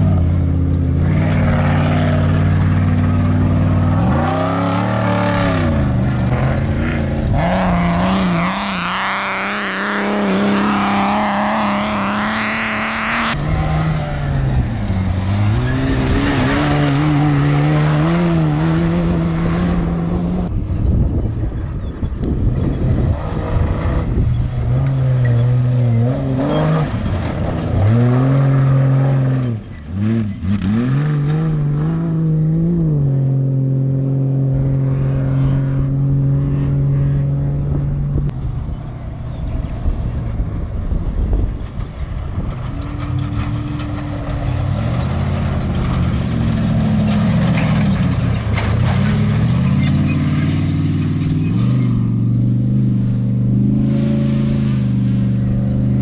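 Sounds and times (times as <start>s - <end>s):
race vehicle engine running hard: 0.0s - 56.0s.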